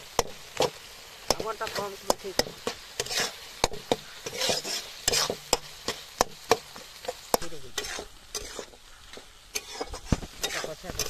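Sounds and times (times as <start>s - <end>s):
masala sizzling: 0.0s - 11.0s
metal spatula scraping a pan: 0.0s - 11.0s.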